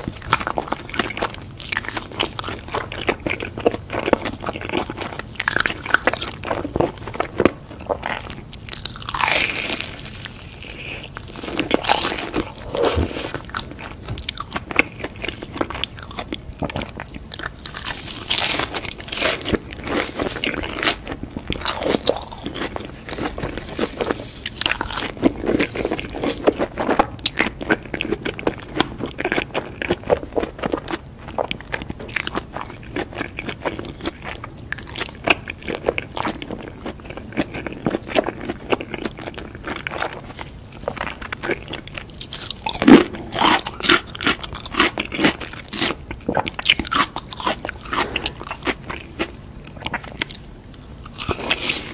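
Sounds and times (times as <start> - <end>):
crunchy bites: 0.0 - 51.9
wet chewing: 0.0 - 51.9.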